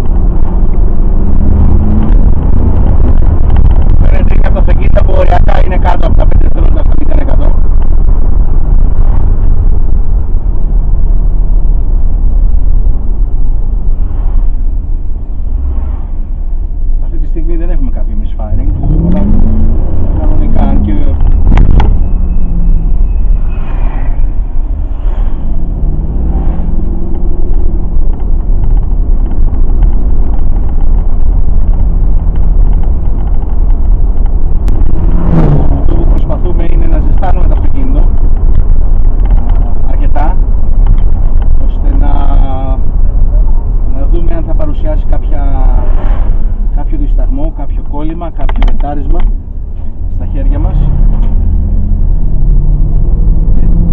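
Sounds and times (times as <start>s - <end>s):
car engine deep rumble: 0.0s - 53.9s.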